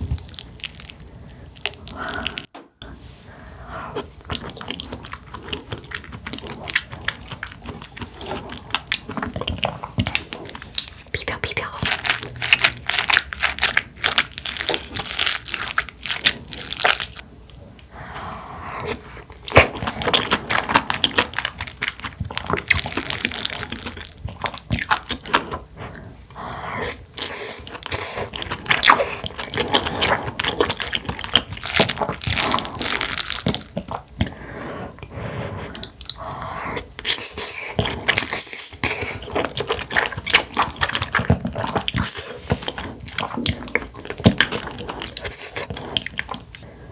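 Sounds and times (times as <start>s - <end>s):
person chewing food: 0.0s - 2.8s, 3.8s - 46.7s.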